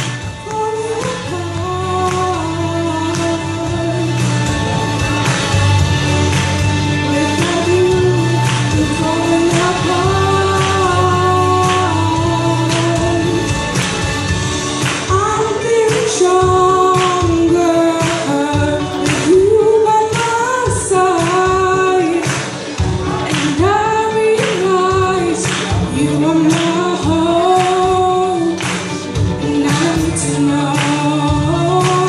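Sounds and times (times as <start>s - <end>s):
backing music with steady beat: 0.0s - 32.0s
woman singing into microphone: 0.0s - 32.0s.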